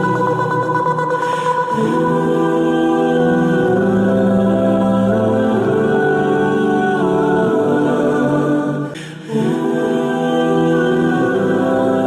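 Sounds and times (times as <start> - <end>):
slow music with long held notes: 0.0 - 12.0.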